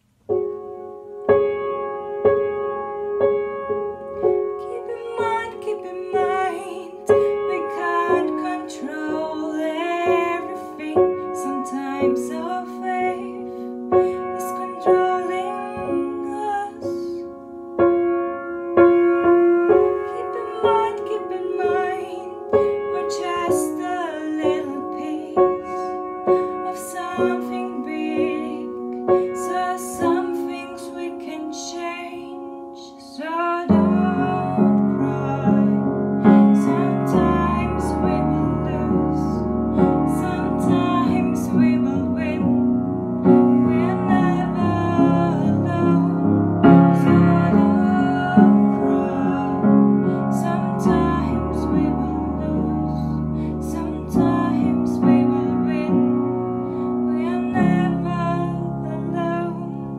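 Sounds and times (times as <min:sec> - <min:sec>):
piano chords: 0:00.0 - 0:59.9
woman singing: 0:04.4 - 0:17.3, 0:19.4 - 0:59.9.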